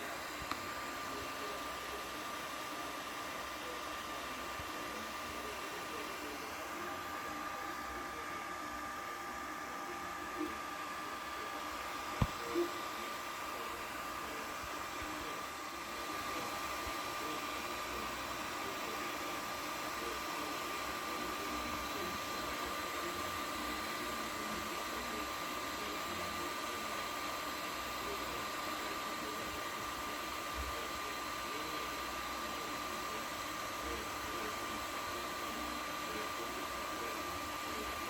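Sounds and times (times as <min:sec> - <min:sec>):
printer fan whir with high whine: 0:00.0 - 0:38.0.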